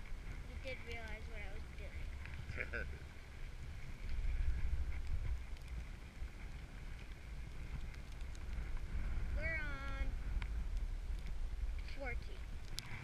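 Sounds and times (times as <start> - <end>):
wind buffeting microphone: 0.0 - 13.0
faint clicks: 0.6 - 2.5, 3.8 - 9.1, 9.8 - 13.0.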